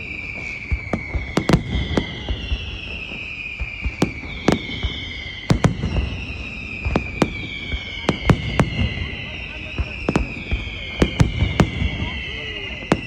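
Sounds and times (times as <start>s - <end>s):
firework bangs: 0.0s - 13.0s
whistling firework shells: 0.0s - 13.0s.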